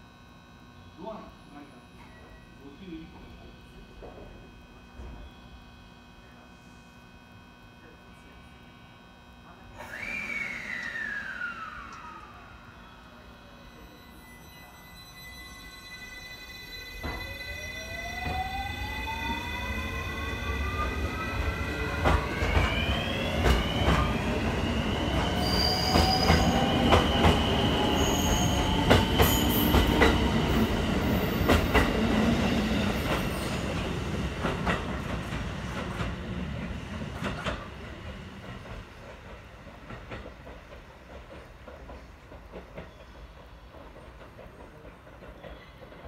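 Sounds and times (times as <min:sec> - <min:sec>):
electric train inverter whine: 0:00.0 - 0:39.9.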